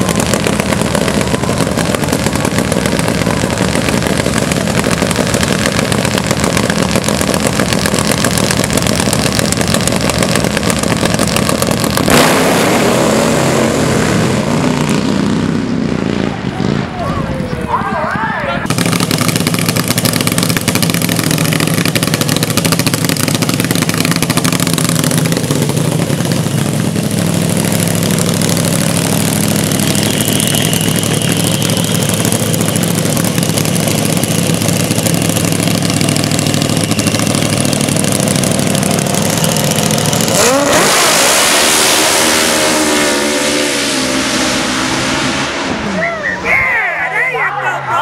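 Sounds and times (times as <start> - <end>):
motorcycle engine idling and revving: 0.0 - 17.8, 18.6 - 46.3.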